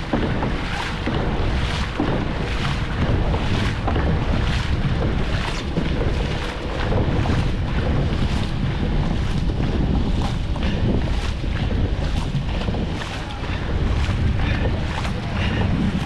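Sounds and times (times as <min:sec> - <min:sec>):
paddles splashing through water: 0:00.0 - 0:16.0
wind buffeting microphone: 0:00.0 - 0:16.0.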